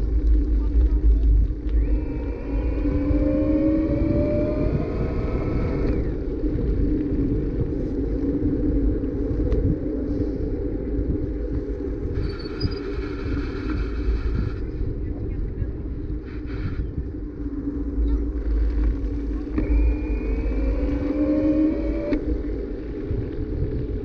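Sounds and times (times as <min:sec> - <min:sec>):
faint rising hum: 0:00.0 - 0:14.5, 0:17.1 - 0:24.0
bicycle tyre rumble on asphalt: 0:00.0 - 0:24.0
wind buffeting microphone: 0:00.0 - 0:24.0.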